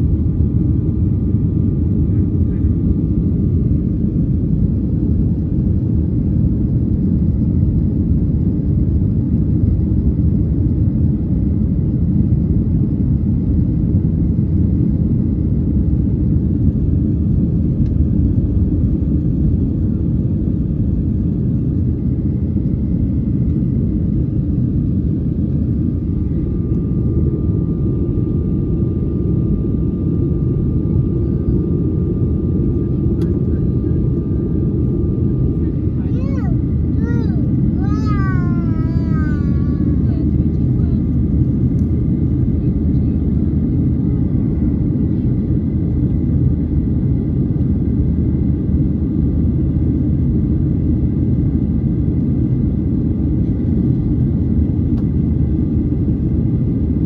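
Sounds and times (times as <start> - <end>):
engine and airflow rumble in cabin: 0.0 - 57.0.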